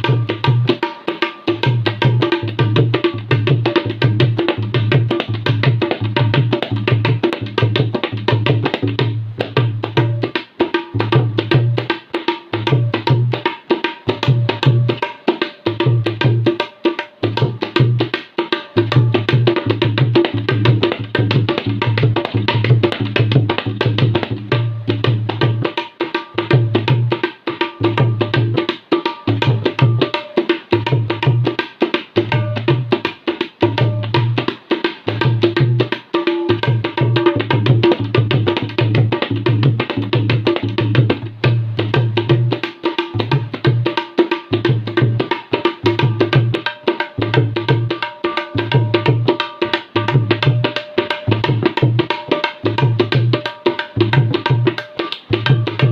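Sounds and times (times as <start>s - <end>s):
tabla fast strokes: 0.0s - 55.9s.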